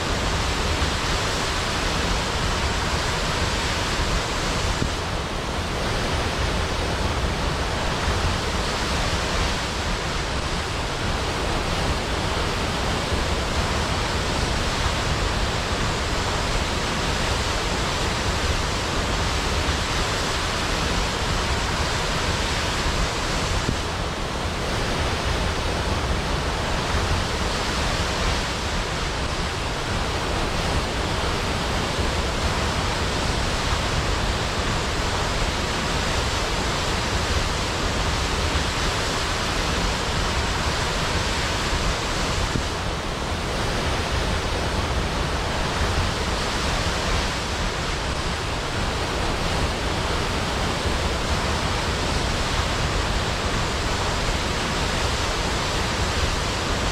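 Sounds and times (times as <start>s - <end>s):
waterfall rushing into a pool: 0.0s - 56.9s.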